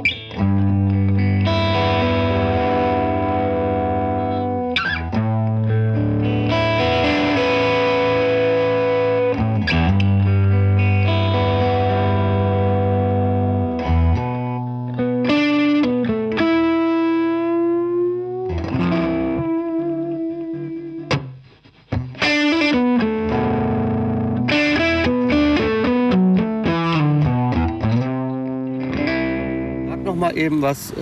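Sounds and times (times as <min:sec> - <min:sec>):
electric guitar chords: 0:00.0 - 0:30.6.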